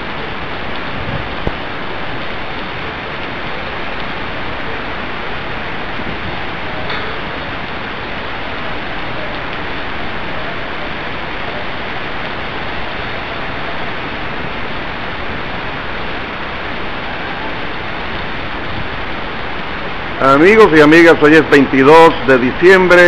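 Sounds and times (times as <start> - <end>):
heavy rain on street and roofs: 0.0 - 23.0.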